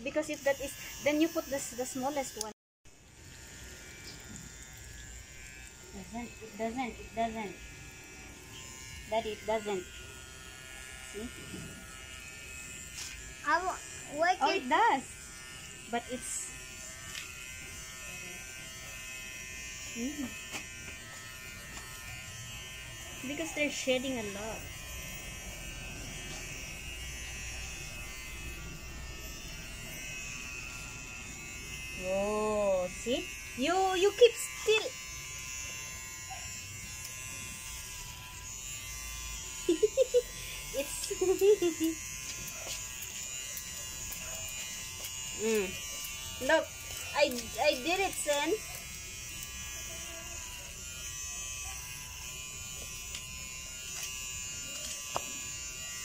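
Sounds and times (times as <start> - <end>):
electric pet trimmer buzzing: 0.0 - 56.0.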